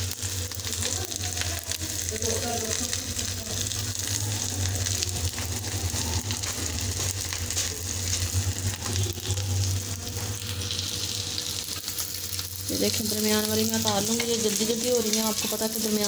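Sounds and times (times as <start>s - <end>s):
patties sizzling in oil: 0.0s - 16.0s.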